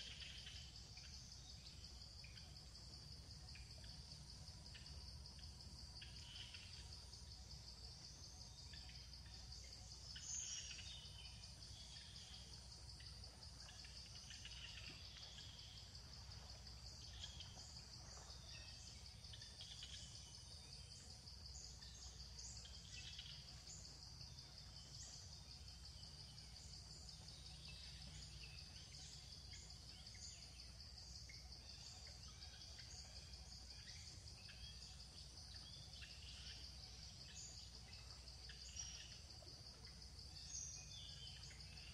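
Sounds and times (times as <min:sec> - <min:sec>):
insect drone: 0:00.0 - 0:41.9.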